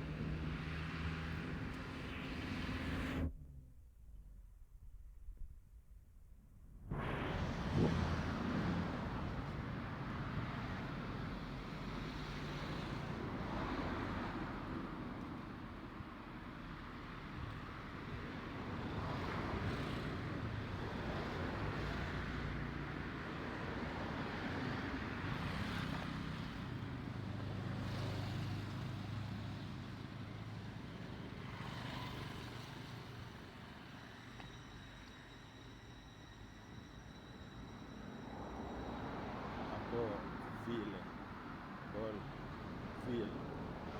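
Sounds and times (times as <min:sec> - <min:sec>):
cars passing: 0:00.0 - 0:03.4, 0:06.9 - 0:34.0, 0:38.0 - 0:43.9.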